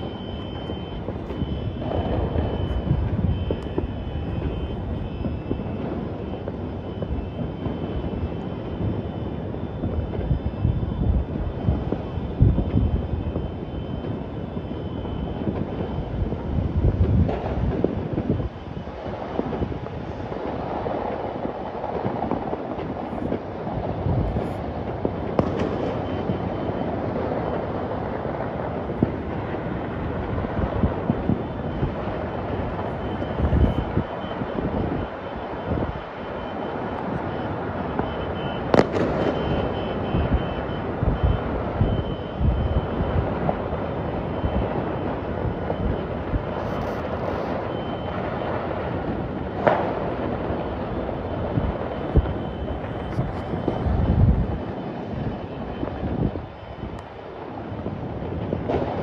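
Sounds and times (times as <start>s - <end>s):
low rumble of city noise: 0.0s - 59.0s.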